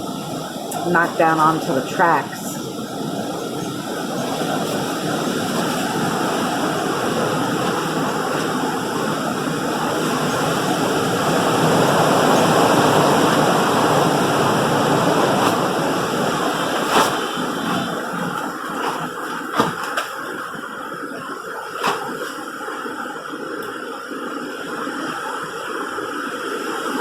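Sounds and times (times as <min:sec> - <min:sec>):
wind gusting through trees: 0:00.0 - 0:27.0.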